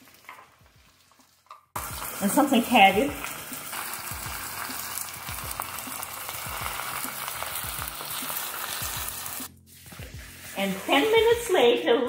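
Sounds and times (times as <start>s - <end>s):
meat sizzling in a pan: 0.0s - 11.5s.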